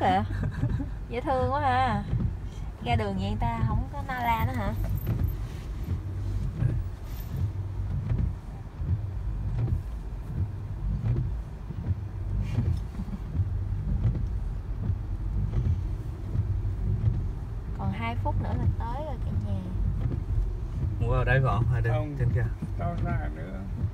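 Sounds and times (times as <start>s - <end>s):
car engine and tyre rumble: 0.0s - 23.9s.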